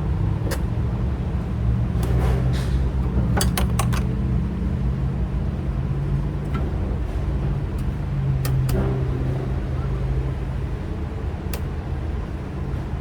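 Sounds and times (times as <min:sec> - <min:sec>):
low engine-like hum: 0:00.0 - 0:13.0.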